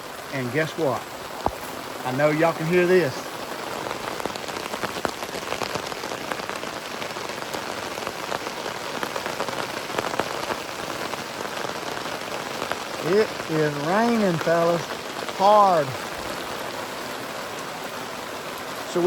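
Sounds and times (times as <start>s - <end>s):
hard rain on tent: 0.0s - 19.0s.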